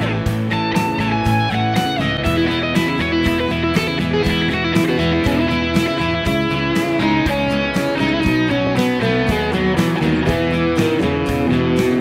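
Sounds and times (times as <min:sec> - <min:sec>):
guitar music over a beat: 0:00.0 - 0:12.0.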